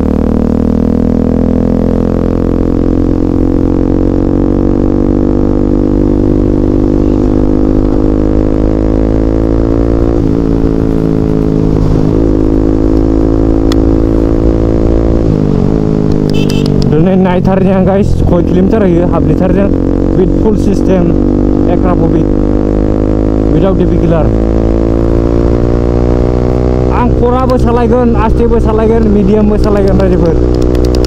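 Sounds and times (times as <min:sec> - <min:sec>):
loud motorcycle engine cruising: 0:00.0 - 0:31.0.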